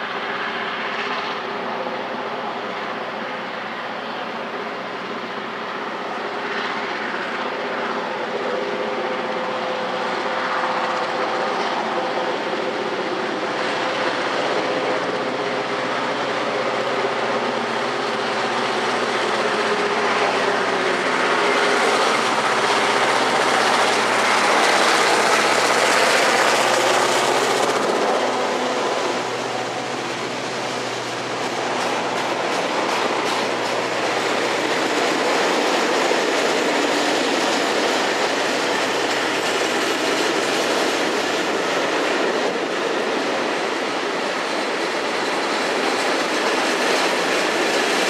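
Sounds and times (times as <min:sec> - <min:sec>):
diesel locomotive engine droning: 0:00.0 - 0:48.0.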